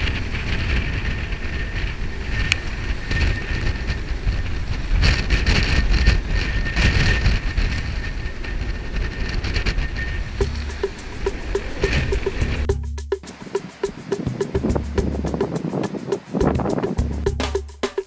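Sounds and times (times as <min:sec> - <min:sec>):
storm wind buffeting microphone: 0:00.0 - 0:12.7, 0:13.3 - 0:17.2.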